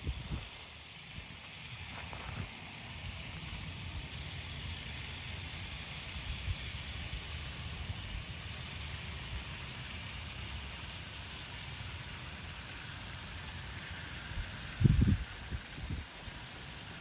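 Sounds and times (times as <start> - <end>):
toy train whirring on plastic track: 0.0 - 17.0.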